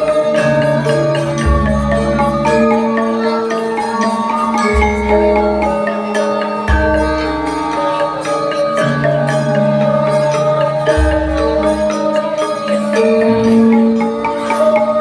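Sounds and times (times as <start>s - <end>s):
gamelan ensemble playing: 0.0s - 15.0s.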